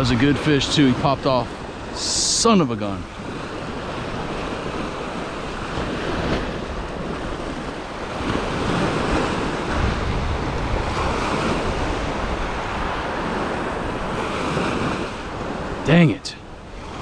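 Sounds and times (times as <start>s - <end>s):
small waves breaking on sand: 0.0s - 17.0s
wind buffeting microphone: 3.0s - 17.0s.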